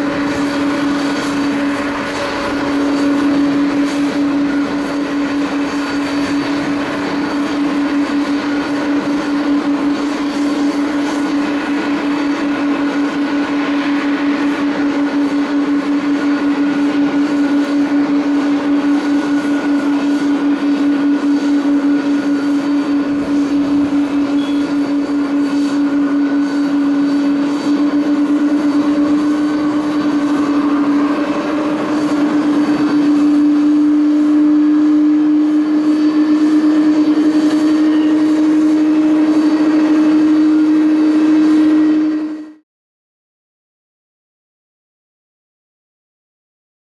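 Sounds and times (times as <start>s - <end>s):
jet engine hum rising in pitch: 0.0s - 42.6s
jet engine roar: 0.0s - 42.6s.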